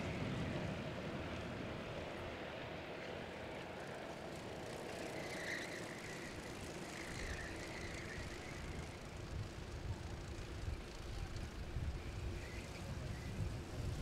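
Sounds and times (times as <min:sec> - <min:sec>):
distant kart engines droning: 0:00.0 - 0:14.0.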